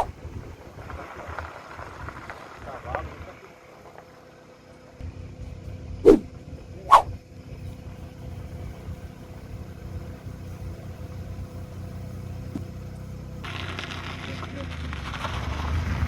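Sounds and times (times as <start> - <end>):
car road rumble: 0.0 - 16.0.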